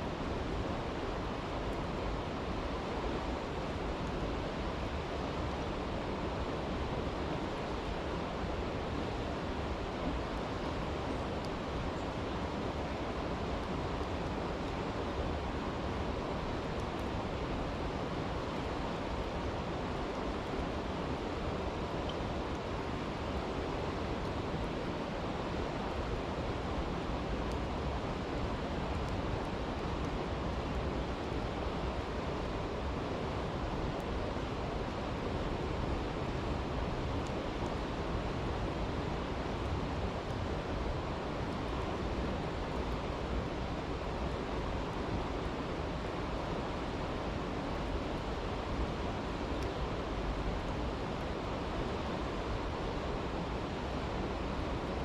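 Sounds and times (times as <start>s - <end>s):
faint campfire crackles: 0.1s - 55.0s
stream rushing: 0.1s - 55.0s.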